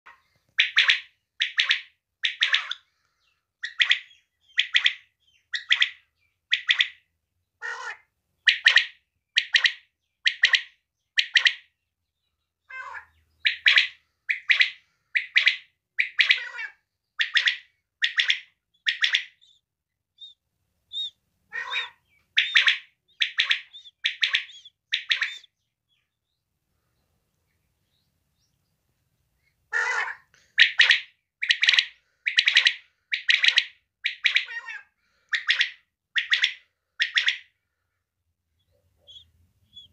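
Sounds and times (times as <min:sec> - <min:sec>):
quail calling: 0:00.1 - 0:02.9, 0:03.6 - 0:11.7, 0:12.7 - 0:19.6, 0:20.2 - 0:25.6, 0:29.7 - 0:37.6, 0:38.6 - 0:39.9.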